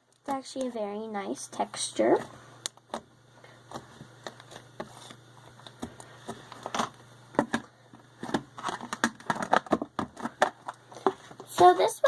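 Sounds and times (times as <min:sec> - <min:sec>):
slime squishing with clicks and crackles: 0:00.0 - 0:01.0, 0:02.6 - 0:11.8.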